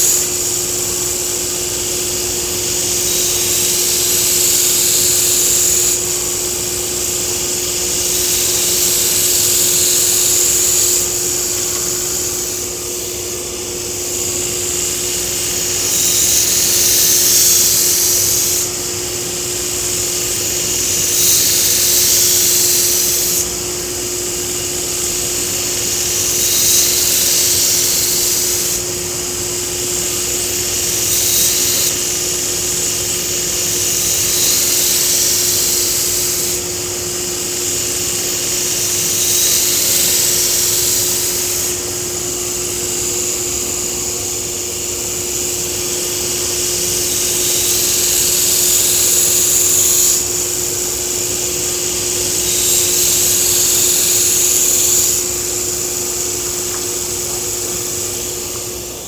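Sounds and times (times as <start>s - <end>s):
blade grinding on abrasive belt: 0.0s - 23.7s, 24.5s - 36.8s, 37.4s - 59.0s
belt grinder humming: 0.0s - 36.8s, 37.4s - 59.0s.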